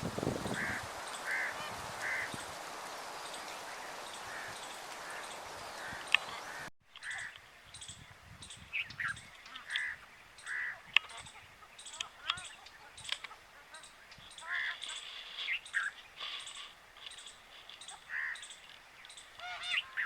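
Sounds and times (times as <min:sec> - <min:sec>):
birds calling: 0:00.0 - 0:20.0
steady background hiss: 0:00.0 - 0:20.0.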